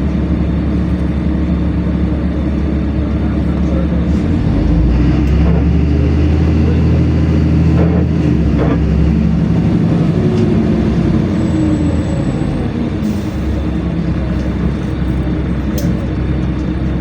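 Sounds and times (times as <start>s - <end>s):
bus engine drone: 0.0s - 17.0s
road noise: 0.0s - 17.0s.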